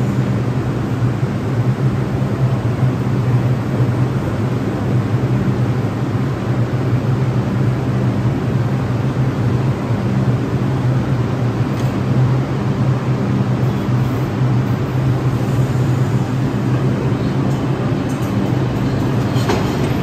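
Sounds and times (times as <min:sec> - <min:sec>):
train equipment low hum: 0:00.0 - 0:20.0.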